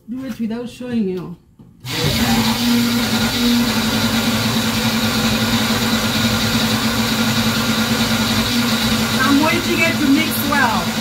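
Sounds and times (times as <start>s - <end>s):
blender motor humming: 1.8s - 11.0s.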